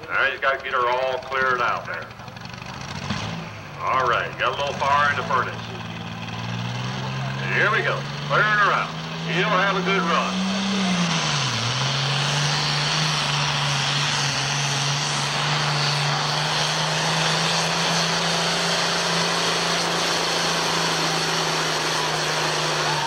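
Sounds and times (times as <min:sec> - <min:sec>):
tractor engine at full throttle: 0:00.0 - 0:23.0.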